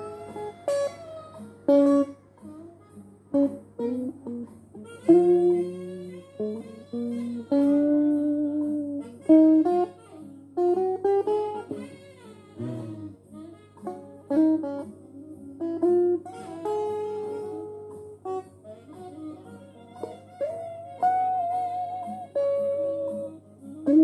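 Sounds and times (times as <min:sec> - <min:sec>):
electric guitar notes: 0:00.0 - 0:24.0.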